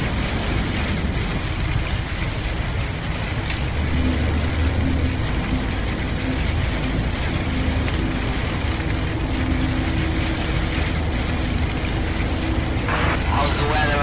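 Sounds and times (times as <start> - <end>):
low engine hum: 0.0 - 14.0
rain and wet road hiss: 0.0 - 14.0.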